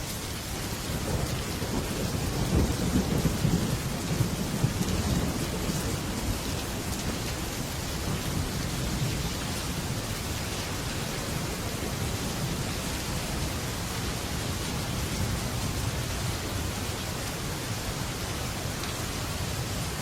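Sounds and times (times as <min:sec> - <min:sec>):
heavy rain on a metal roof: 0:00.0 - 0:20.0
thunder rumbling: 0:00.8 - 0:18.2.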